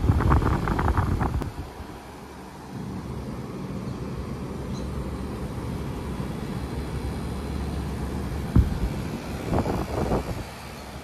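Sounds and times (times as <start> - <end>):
air conditioner outdoor unit humming: 0.0 - 11.0.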